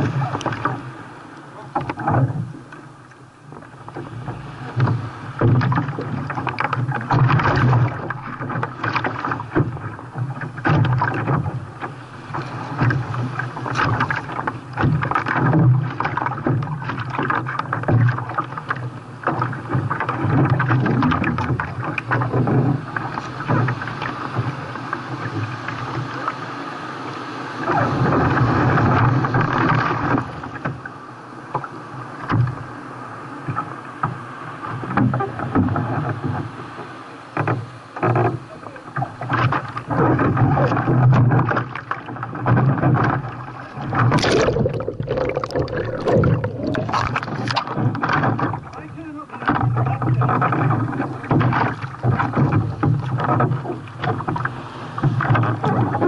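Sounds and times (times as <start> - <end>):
water splashing against kayak: 0.0 - 56.0.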